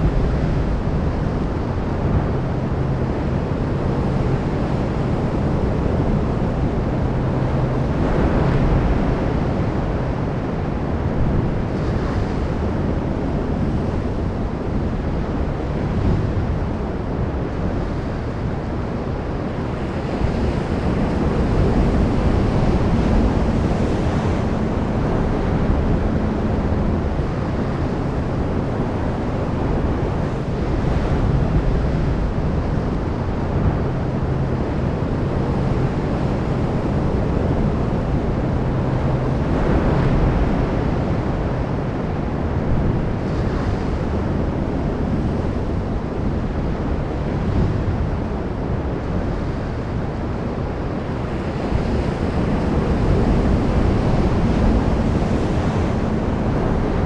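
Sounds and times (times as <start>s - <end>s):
sea waves washing ashore: 0.0s - 57.0s
wind rumbling on microphone: 0.0s - 57.0s.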